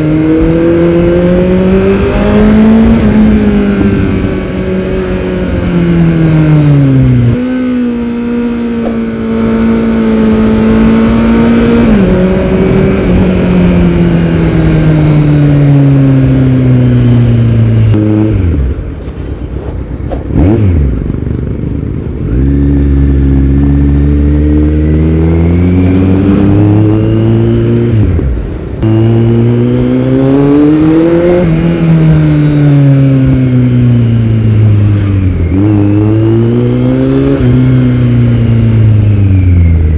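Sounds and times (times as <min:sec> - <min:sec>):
motorcycle engine accelerating: 0:00.0 - 0:18.9, 0:19.9 - 0:39.9.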